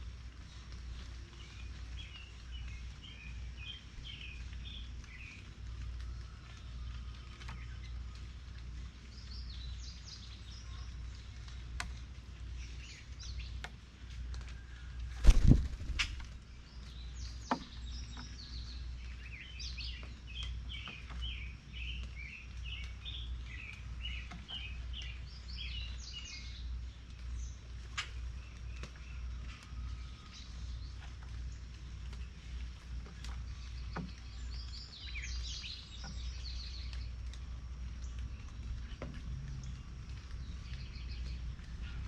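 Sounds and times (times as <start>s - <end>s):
low outdoor rumble: 0.0s - 42.0s
songbirds chirping: 0.0s - 42.0s.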